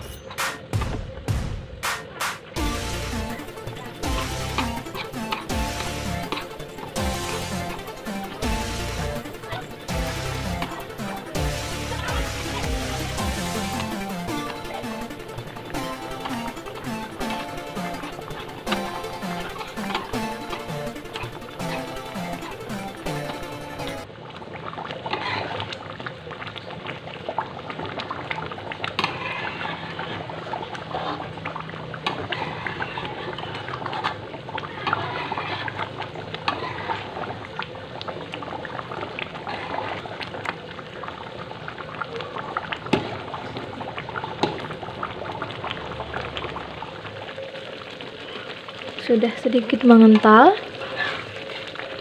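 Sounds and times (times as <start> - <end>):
sauce bubbling in a wok: 2.6 - 52.0.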